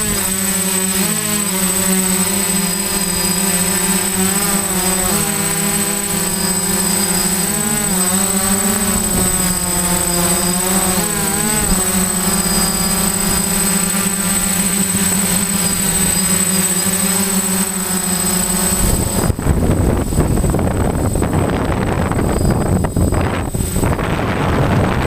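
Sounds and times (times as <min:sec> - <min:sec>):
drone propellers droning: 0:00.0 - 0:25.0
thin high whine: 0:00.0 - 0:25.0.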